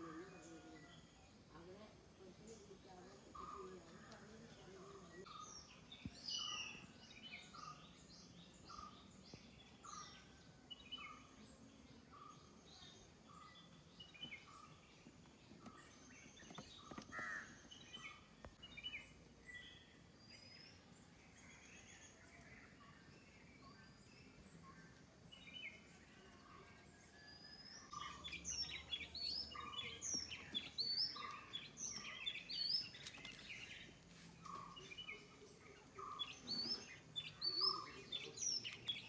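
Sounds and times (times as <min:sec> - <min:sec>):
birds chirping: 0:00.0 - 0:39.0
faint outdoor background noise: 0:00.0 - 0:39.0.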